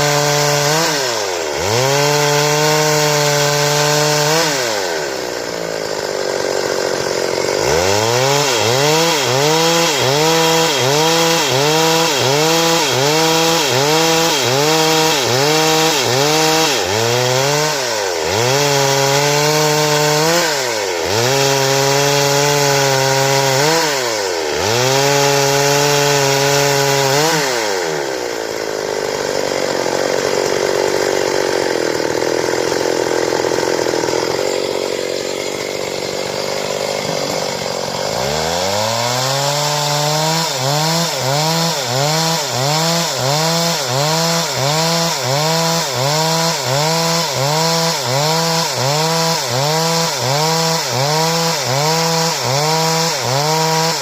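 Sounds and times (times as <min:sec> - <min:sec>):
chainsaw cutting a board: 0:00.0 - 0:54.0.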